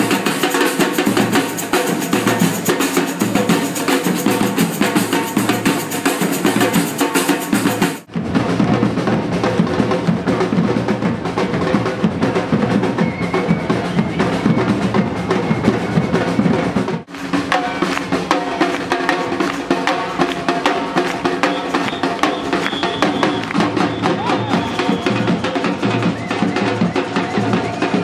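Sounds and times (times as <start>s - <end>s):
drum-driven music: 0.0s - 28.0s.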